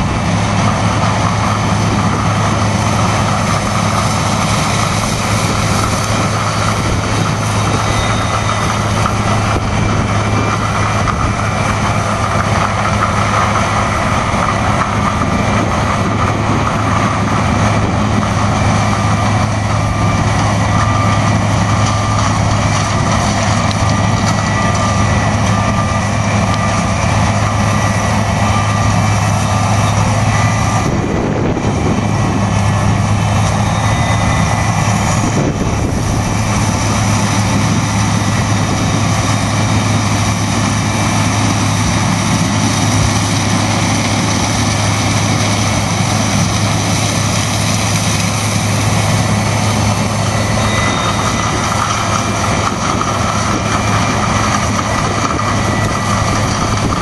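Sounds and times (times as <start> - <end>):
diesel farm machinery running: 0.0 - 57.0.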